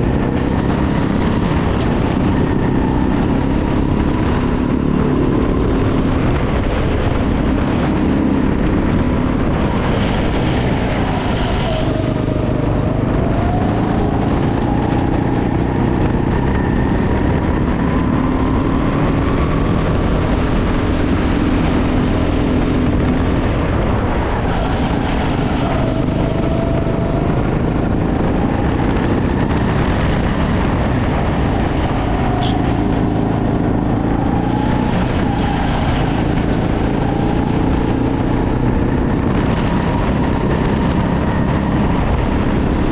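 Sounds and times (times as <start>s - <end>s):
go-kart engine revving: 0.0s - 42.9s.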